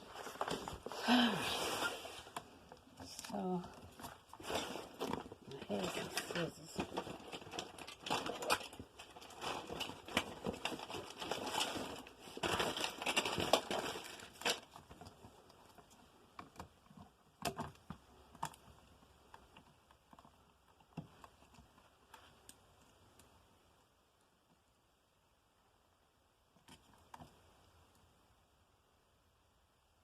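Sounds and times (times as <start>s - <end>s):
rustling: 0.0s - 25.7s.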